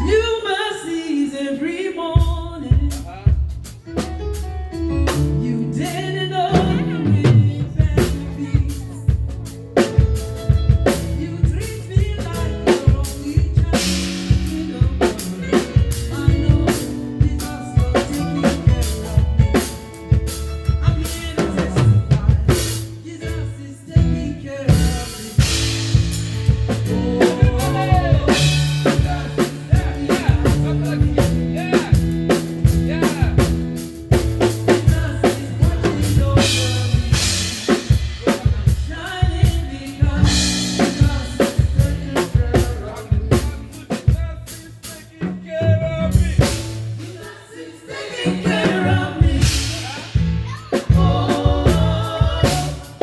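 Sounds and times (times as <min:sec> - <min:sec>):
live band playing: 0:00.0 - 0:01.2, 0:02.0 - 0:53.0
drum kit: 0:02.2 - 0:53.0.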